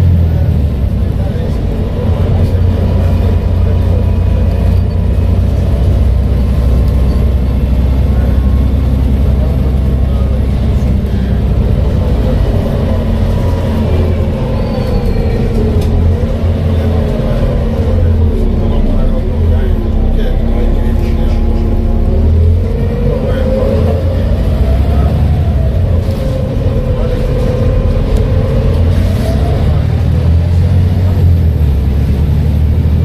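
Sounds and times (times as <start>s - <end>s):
bus diesel engine droning: 0.0s - 33.0s.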